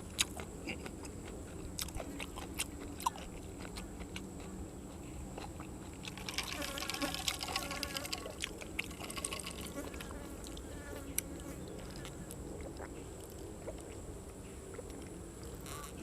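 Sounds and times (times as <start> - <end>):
person chewing and crunching food: 0.0 - 16.0.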